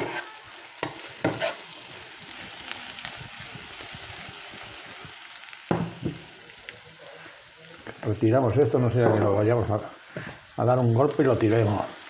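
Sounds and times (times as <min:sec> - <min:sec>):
leeks sizzling in oil: 0:00.0 - 0:12.0.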